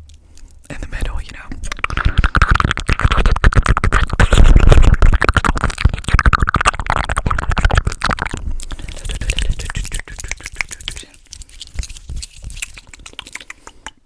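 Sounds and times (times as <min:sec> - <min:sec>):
mouth clicks and pops: 0:00.0 - 0:14.0.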